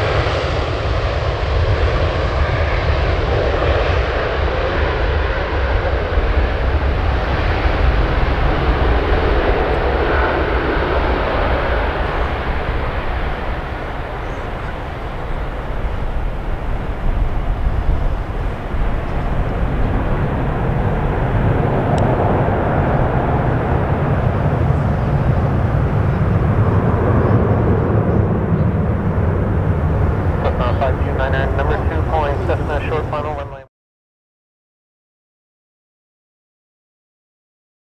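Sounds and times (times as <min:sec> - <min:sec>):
jet aircraft roar on takeoff: 0:00.0 - 0:33.7.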